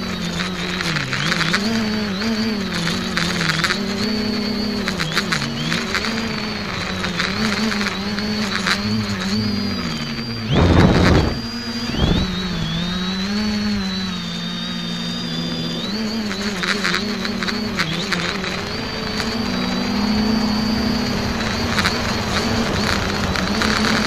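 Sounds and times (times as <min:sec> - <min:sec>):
drone motors whining: 0:00.0 - 0:24.0
rush of noise: 0:00.0 - 0:24.0.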